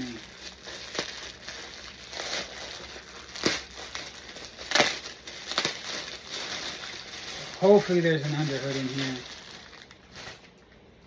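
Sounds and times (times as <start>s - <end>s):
packaging crinkling and rustling: 0.0s - 10.7s.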